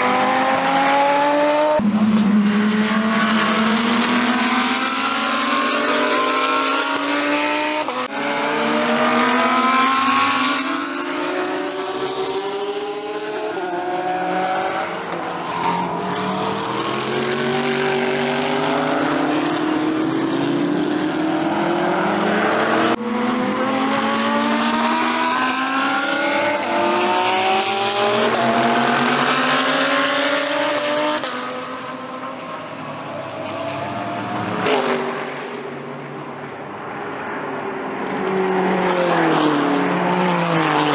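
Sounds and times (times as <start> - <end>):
race cars accelerating past: 0.0 - 40.9.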